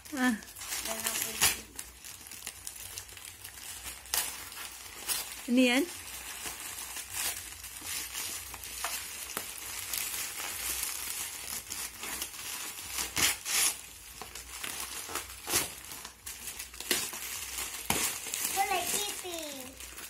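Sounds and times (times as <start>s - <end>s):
wrapping paper rustling and tearing: 0.0s - 20.0s.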